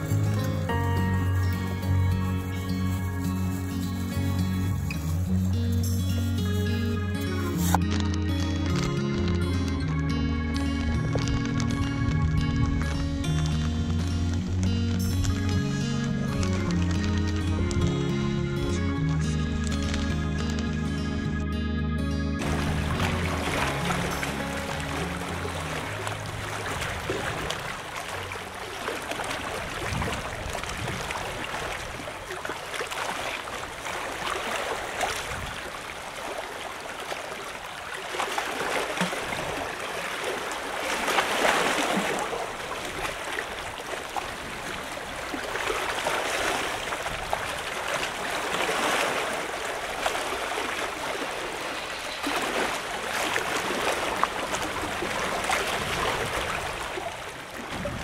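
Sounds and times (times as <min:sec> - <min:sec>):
water lapping against seawall: 0:00.0 - 0:21.1, 0:22.4 - 0:58.0.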